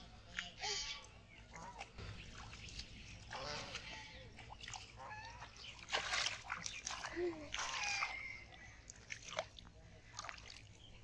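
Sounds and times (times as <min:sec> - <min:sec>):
splashing in shallow water: 0:01.7 - 0:11.0.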